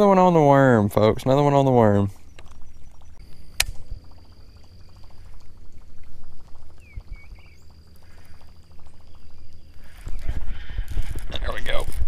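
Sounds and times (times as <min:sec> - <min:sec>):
high whine: 0:00.0 - 0:12.0
low steady rumble: 0:00.0 - 0:12.0.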